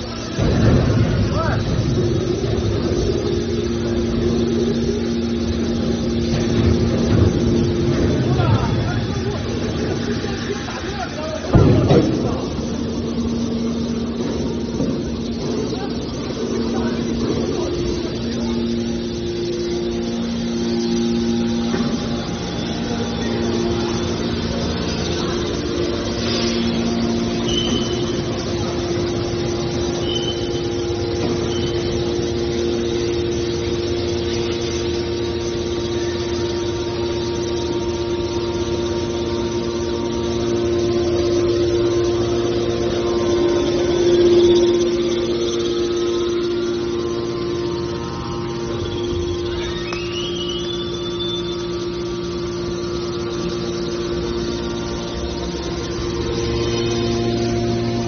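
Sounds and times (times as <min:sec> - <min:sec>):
machine humming with strong tone: 0:00.0 - 0:58.0.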